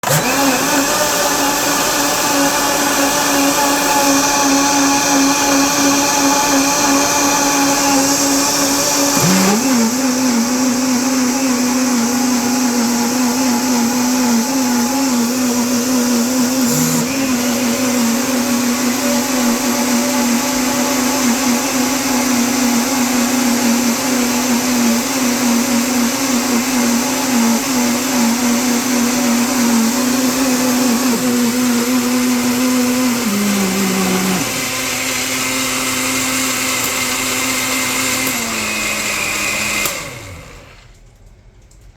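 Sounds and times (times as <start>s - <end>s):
blenders motor whine: 0.0s - 41.2s.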